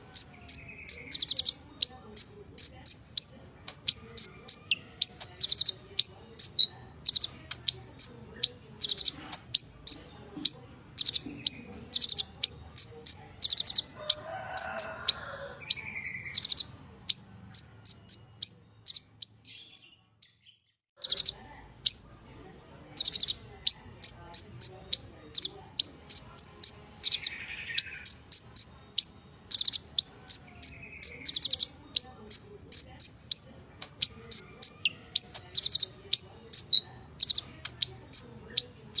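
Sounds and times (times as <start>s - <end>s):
bird singing high chirps: 0.0s - 22.1s, 23.0s - 39.0s.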